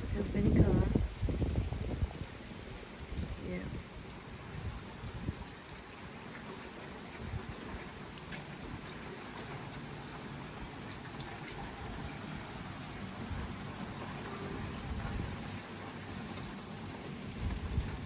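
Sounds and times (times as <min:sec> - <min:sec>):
raindrops ticking: 0:00.0 - 0:18.0
steady rain hiss: 0:00.0 - 0:18.0.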